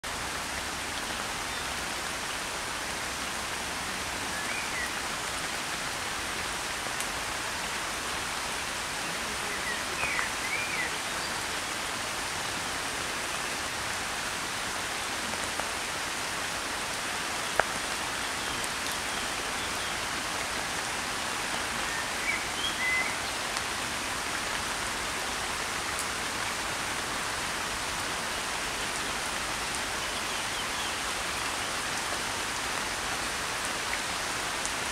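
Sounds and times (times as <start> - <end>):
rain pattering on pond: 0.0 - 34.9.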